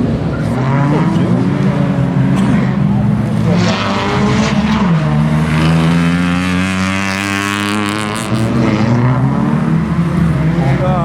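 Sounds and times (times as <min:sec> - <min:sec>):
rally car engine passing at speed: 0:00.0 - 0:11.0.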